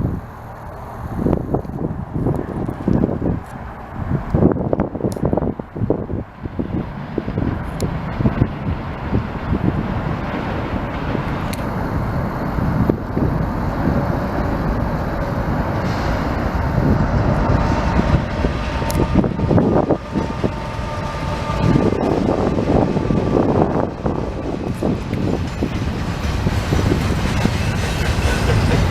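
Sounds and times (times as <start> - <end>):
freight train wheels rumbling: 0.0 - 28.9.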